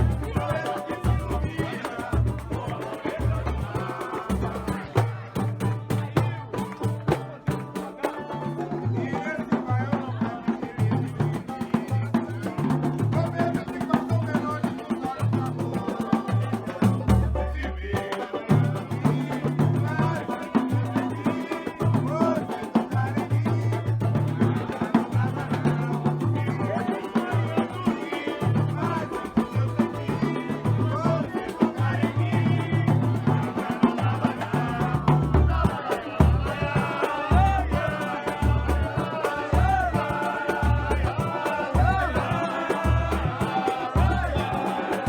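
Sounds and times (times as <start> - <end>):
rapid hand percussion: 0.0 - 45.0.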